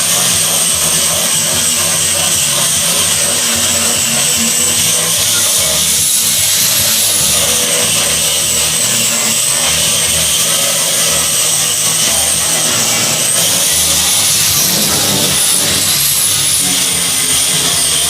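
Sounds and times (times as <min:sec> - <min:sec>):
electric woodworking tool whining: 0:00.0 - 0:18.0.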